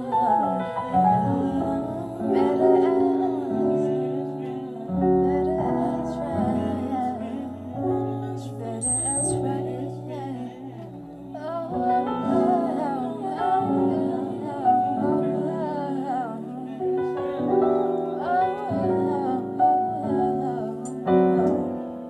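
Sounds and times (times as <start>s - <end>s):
keyboard chords: 0.0s - 22.0s.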